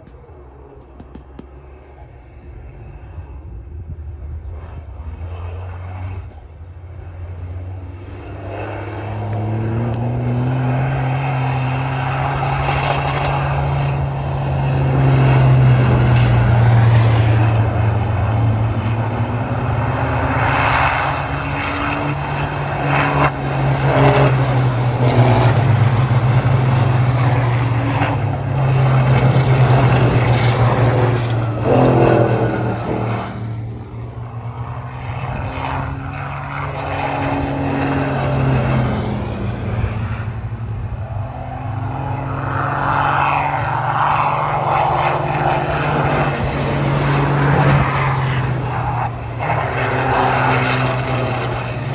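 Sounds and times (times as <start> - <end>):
racing truck diesel engines: 0.0 - 51.9.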